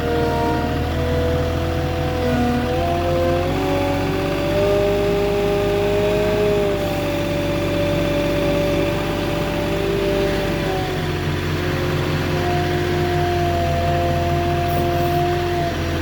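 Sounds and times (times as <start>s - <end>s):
engine whine: 0.0s - 16.0s
forklift engine running: 0.0s - 16.0s.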